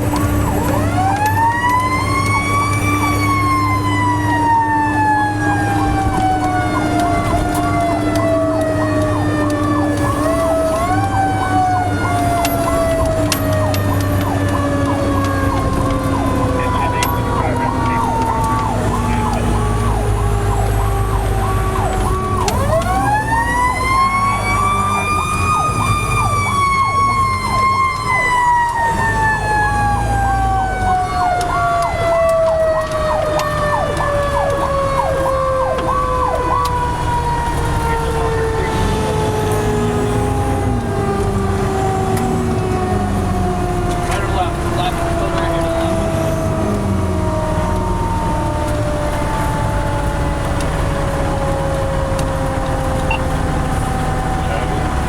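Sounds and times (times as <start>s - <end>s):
low engine rumble: 0.0s - 55.0s
siren winding up and falling: 0.0s - 55.0s.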